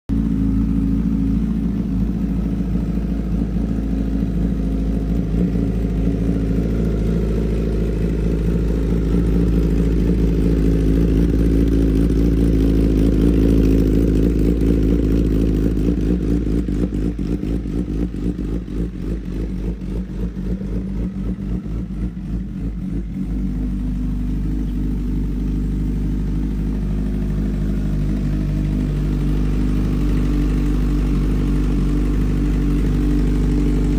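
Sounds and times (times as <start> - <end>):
motorcycle engine exhaust: 0.1 - 33.9.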